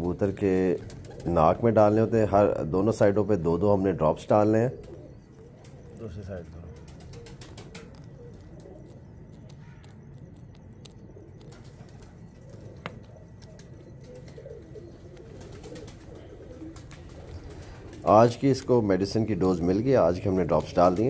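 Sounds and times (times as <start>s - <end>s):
soft low pigeon cooing: 0.0s - 21.0s.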